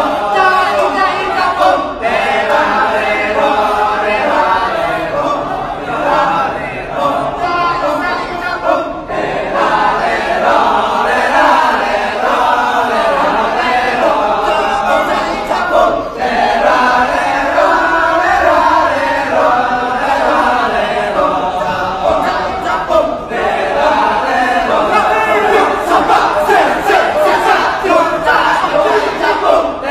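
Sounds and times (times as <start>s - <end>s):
group of voices chanting: 0.0s - 29.9s.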